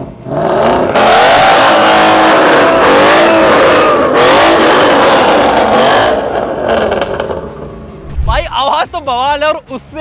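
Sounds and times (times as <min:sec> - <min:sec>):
car engine revving: 0:00.3 - 0:08.6.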